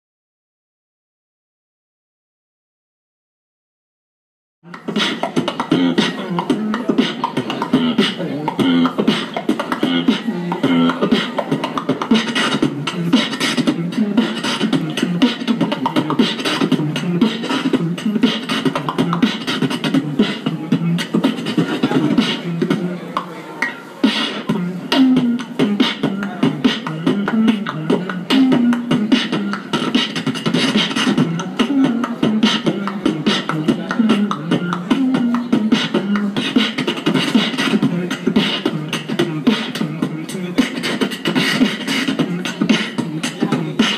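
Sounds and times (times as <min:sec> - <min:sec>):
beatboxing into a microphone: 0:04.6 - 0:43.9.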